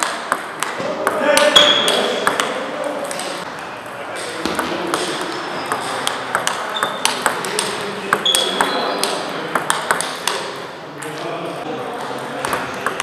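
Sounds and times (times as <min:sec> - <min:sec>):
table tennis balls clicking: 0:00.0 - 0:03.4, 0:04.2 - 0:11.2, 0:12.4 - 0:13.0.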